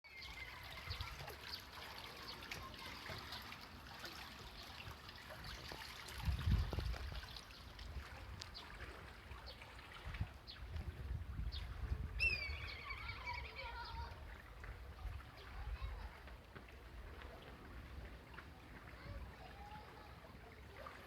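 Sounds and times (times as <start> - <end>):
stream trickling: 0.0 - 21.0.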